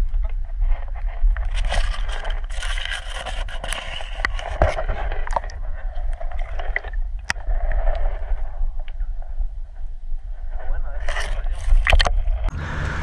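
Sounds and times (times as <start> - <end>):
underwater rumble and hiss: 0.0 - 13.0
clicks and scrapes: 0.2 - 9.0, 10.5 - 12.5.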